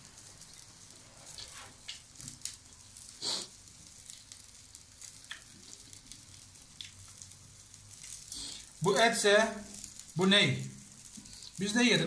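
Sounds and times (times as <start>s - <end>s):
grease crackles and pops: 0.0s - 12.0s
meat sizzling on a grill: 0.0s - 12.0s.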